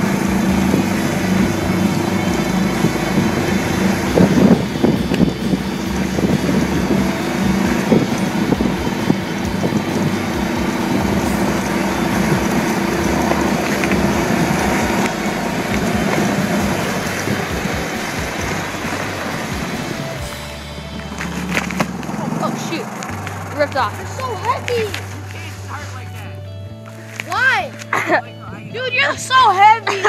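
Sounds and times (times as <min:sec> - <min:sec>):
golf cart motor hum: 0:00.0 - 0:30.0
rumbling and rattling over rough ground: 0:00.0 - 0:30.0.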